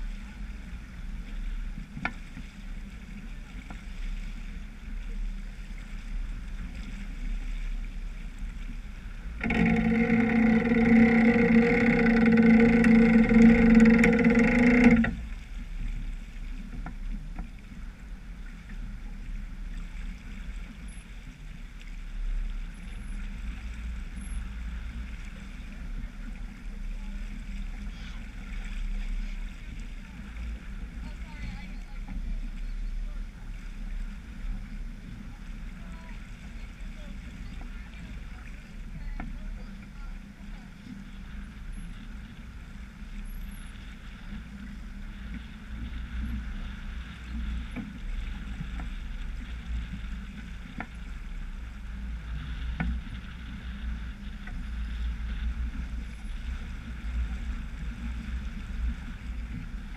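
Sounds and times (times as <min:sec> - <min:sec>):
loud steady droning tone: 0:00.0 - 0:59.9
wind and water rushing past hull: 0:00.0 - 0:59.9.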